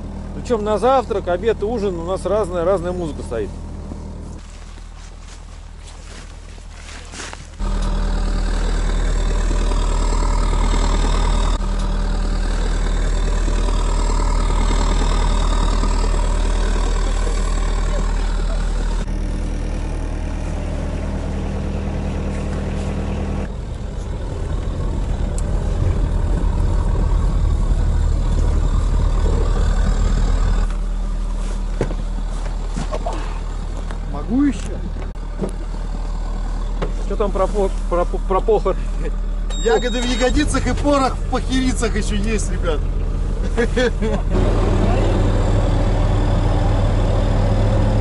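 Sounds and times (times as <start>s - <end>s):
diesel engines idling: 0.0s - 48.0s.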